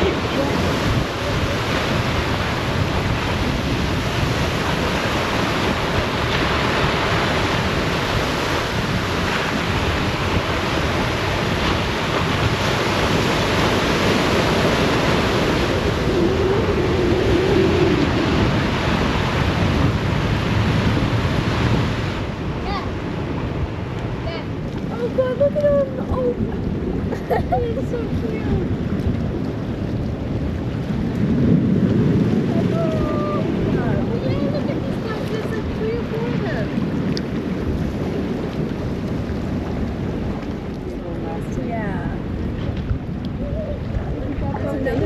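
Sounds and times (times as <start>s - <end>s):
small waves breaking on beach: 0.0s - 45.0s
wind buffeting microphone: 0.0s - 45.0s.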